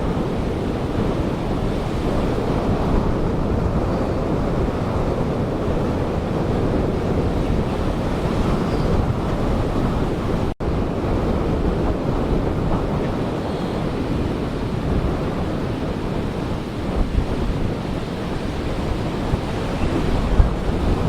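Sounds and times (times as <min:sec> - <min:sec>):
ocean surf breaking on beach: 0:00.0 - 0:21.0
wind buffeting microphone: 0:00.0 - 0:21.0.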